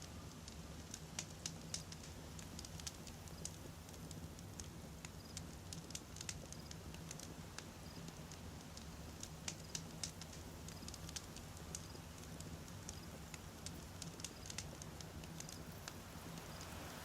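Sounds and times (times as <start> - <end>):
campfire crackling and popping: 0.0 - 17.0
low rumble of fire: 0.0 - 17.0.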